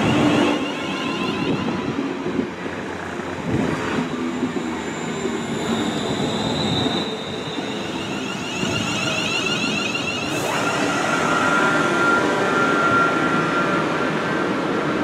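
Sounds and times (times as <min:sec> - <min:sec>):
high brake squeal: 0:00.0 - 0:02.4, 0:03.8 - 0:14.5
electric train wheel and motor noise: 0:00.0 - 0:15.0.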